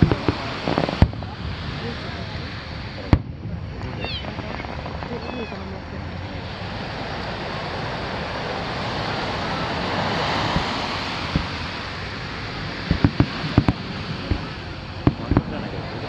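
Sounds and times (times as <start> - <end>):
firework bangs: 0.0 - 16.0
surf washing onto beach: 0.0 - 16.0.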